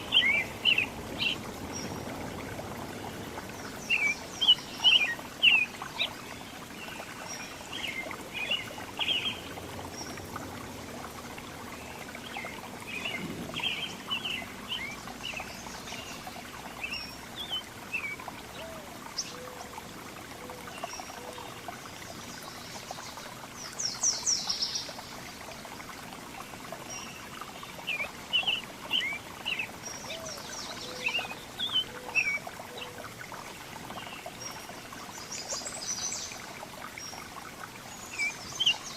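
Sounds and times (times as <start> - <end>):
songbirds chirping: 0.0 - 38.9
trickle of running water: 0.0 - 38.9.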